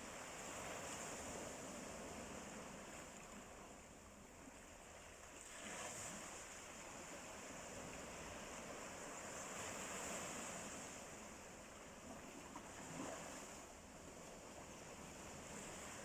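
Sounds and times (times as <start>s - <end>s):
sea waves washing ashore: 0.0s - 16.0s.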